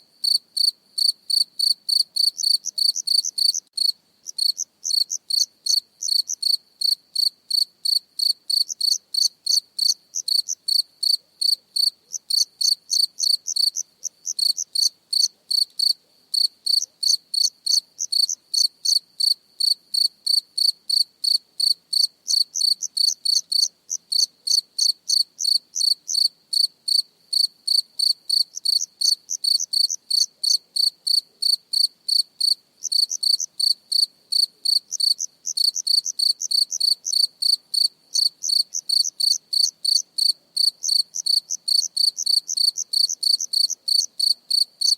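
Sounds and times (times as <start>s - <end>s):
cricket chirping: 0.0s - 44.9s.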